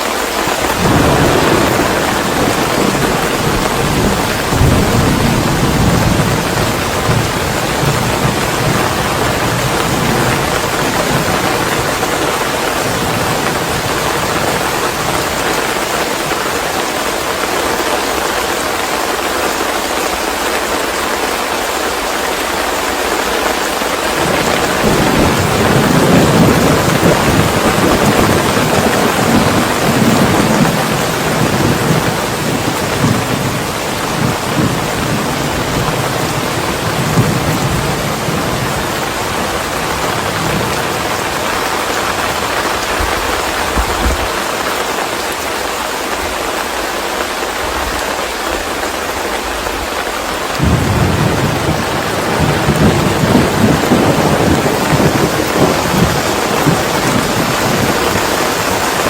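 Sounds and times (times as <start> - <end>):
heavy rain: 0.0 - 59.0
thunder rumbling: 0.2 - 16.6, 23.4 - 45.0, 49.4 - 59.0.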